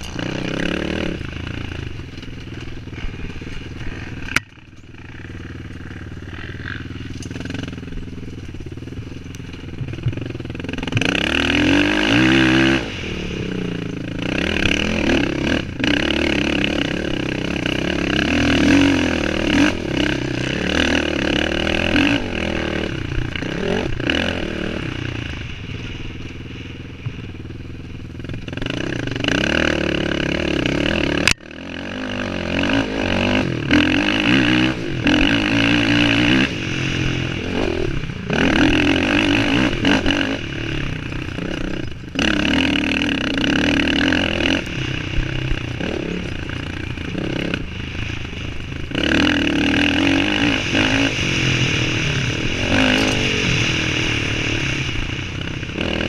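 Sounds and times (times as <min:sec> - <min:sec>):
quad engine revving: 0:00.0 - 0:26.0, 0:26.9 - 0:56.0.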